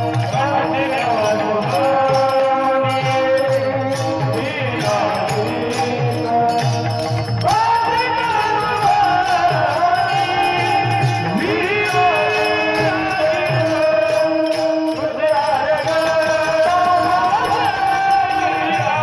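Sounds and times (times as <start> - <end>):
jingling hand cymbals: 0.0 - 19.0
person singing ornamented notes: 0.0 - 19.0
steady drum beat: 0.0 - 19.0.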